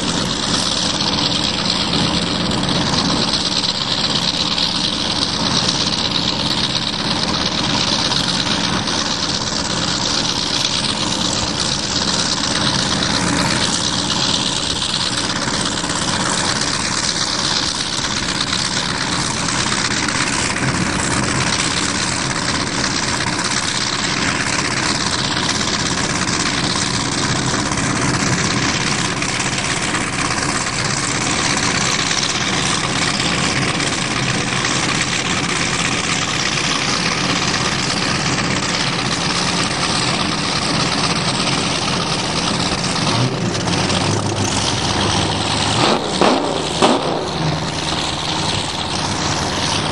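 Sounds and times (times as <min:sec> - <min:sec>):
outboard engine running: 0:00.0 - 0:49.9.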